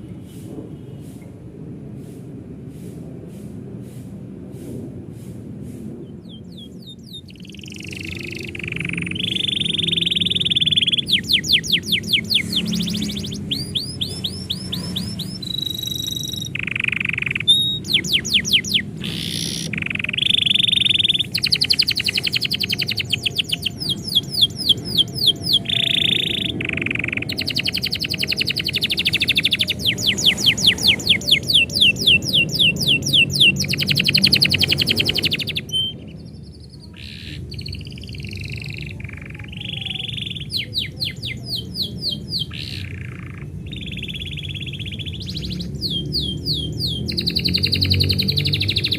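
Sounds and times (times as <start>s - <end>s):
canary singing trills: 6.0s - 48.9s.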